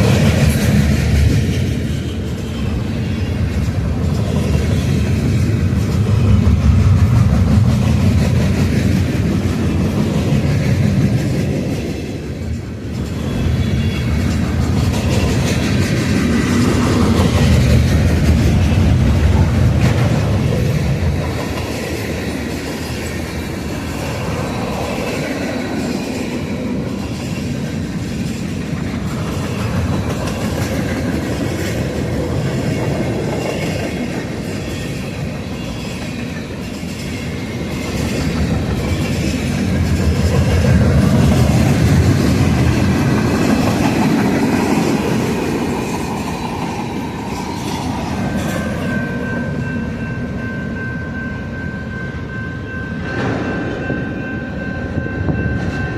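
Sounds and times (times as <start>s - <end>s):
clickety-clack over rail joints: 0.0s - 50.3s
train wheels rumbling on rails: 0.0s - 55.9s.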